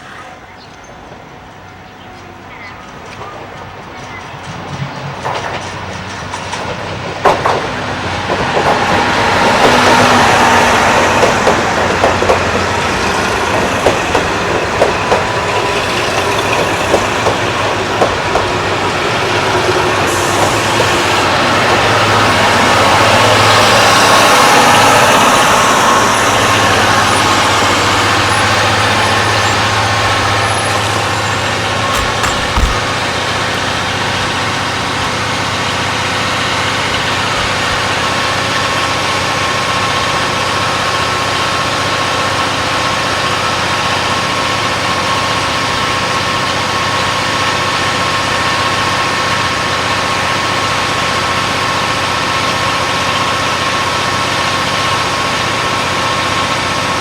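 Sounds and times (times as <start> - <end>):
diesel railcar engines idling: 0.0 - 57.0.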